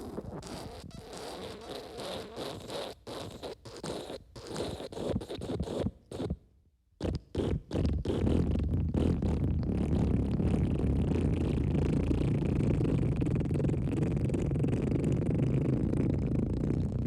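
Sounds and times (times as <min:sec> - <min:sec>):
wet fart sound: 0:00.0 - 0:06.4, 0:07.0 - 0:17.0.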